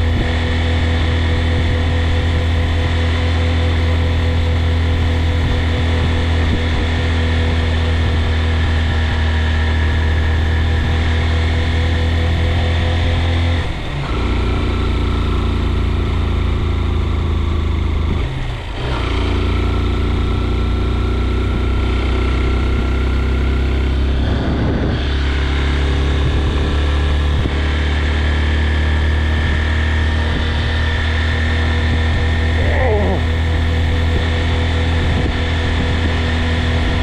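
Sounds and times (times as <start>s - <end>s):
vehicle engine running under load: 0.0s - 37.0s.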